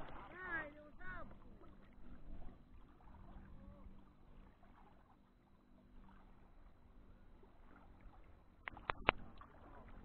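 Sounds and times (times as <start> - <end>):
shallow water ambience: 0.0 - 10.0.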